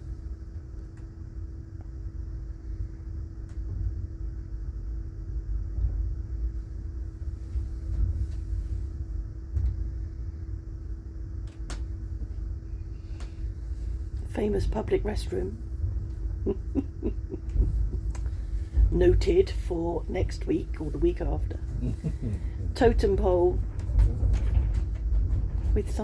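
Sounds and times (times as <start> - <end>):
steady hum: 0.0 - 26.0
train car rumbling: 0.0 - 26.0.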